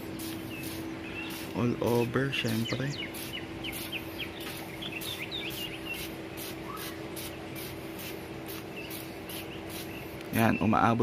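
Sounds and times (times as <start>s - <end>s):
spray bottle hissing: 0.0s - 10.2s
steady low hum: 0.0s - 11.0s.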